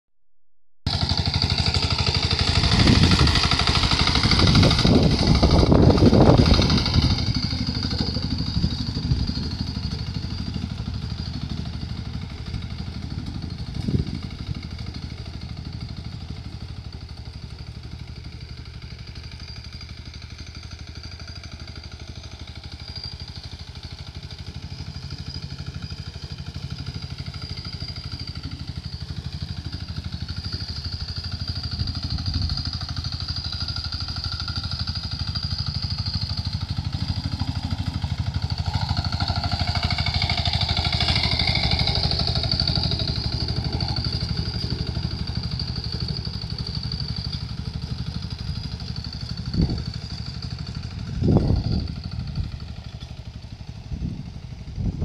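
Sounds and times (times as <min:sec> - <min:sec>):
hand tractor engine running: 0:00.9 - 0:19.0, 0:21.3 - 0:53.4.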